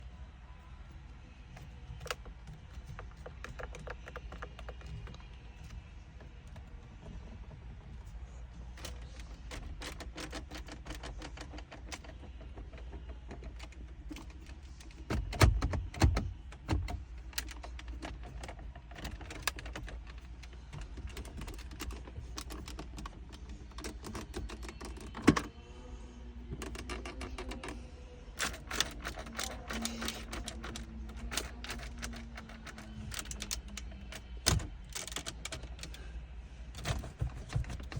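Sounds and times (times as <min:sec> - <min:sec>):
cabin trim creaking and clicking: 0:01.6 - 0:25.6, 0:26.4 - 0:36.1, 0:36.7 - 0:37.9.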